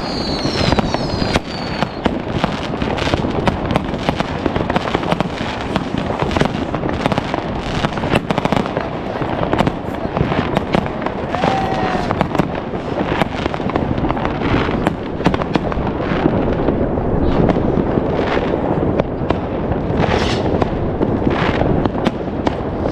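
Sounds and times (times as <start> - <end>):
firecracker crackle: 0.0 - 22.9
sharp firework bangs: 0.0 - 22.9.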